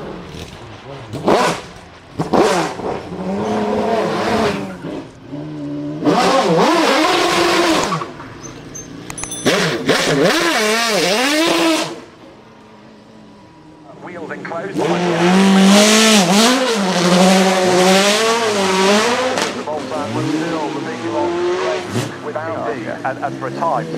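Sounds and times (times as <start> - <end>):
race car engine revving: 0.0 - 23.9.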